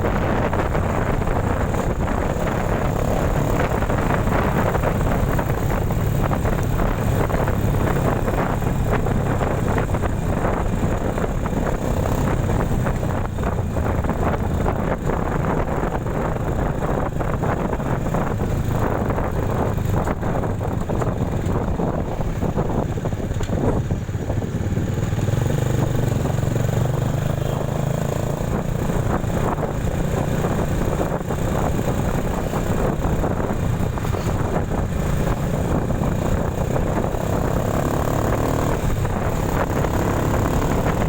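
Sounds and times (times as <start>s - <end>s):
motorcycle engine running: 0.0s - 41.0s
wind noise on microphone: 0.0s - 41.0s.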